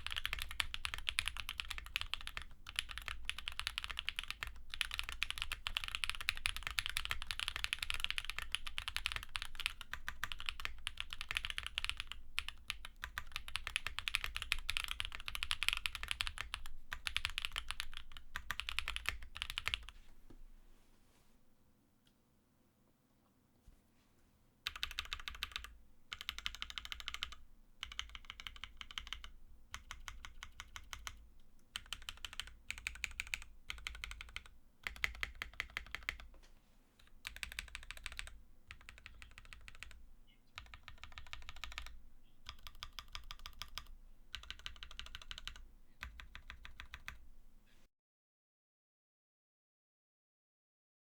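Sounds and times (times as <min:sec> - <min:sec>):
mechanical keyboard typing: 0:00.0 - 0:20.0, 0:24.6 - 0:36.3, 0:37.1 - 0:40.0, 0:40.6 - 0:47.4.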